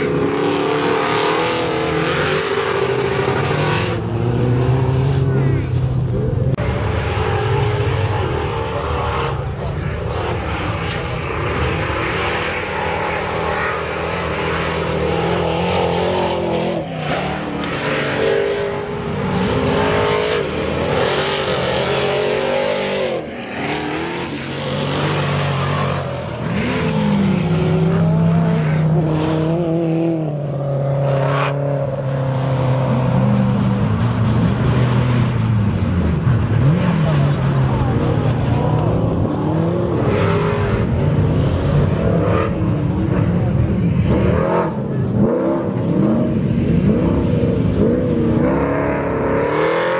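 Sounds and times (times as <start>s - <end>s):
race truck engines revving: 0.0s - 49.9s.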